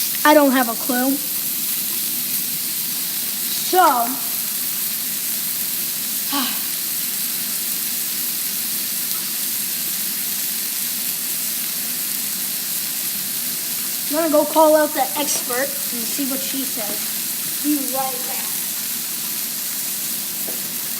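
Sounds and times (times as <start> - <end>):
chicken sizzling: 0.0 - 20.9.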